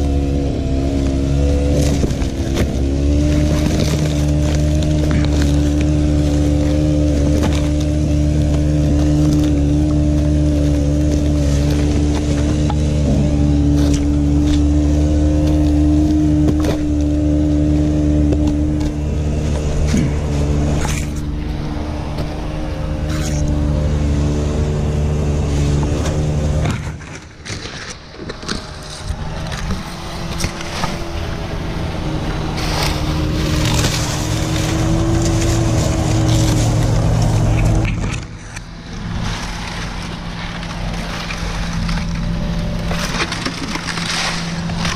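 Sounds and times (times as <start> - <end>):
dry fronds crackling: 0.0 - 44.9
engine running: 0.0 - 44.9
rope scraping palm trunk: 0.0 - 44.9.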